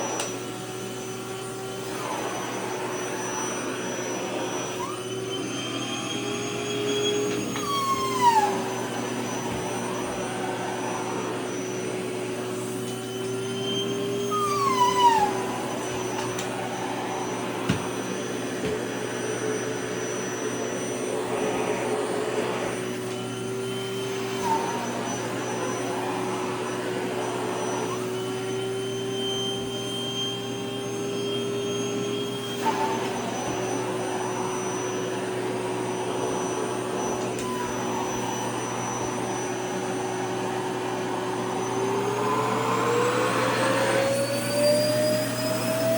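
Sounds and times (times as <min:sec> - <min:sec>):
vacuum cleaner whining: 0:00.0 - 0:45.9.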